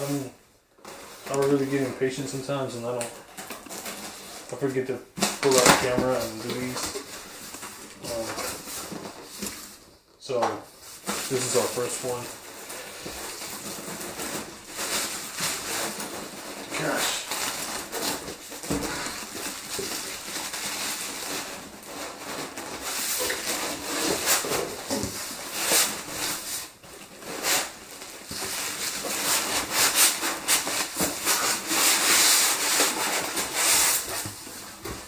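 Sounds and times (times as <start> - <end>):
plastic bag and cardboard crinkling: 0.0 - 35.0.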